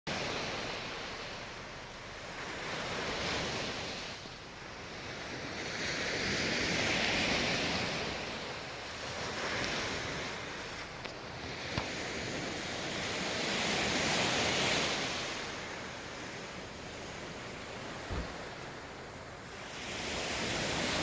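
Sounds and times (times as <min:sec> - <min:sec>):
sea surf washing onto shore: 0:00.1 - 0:21.0.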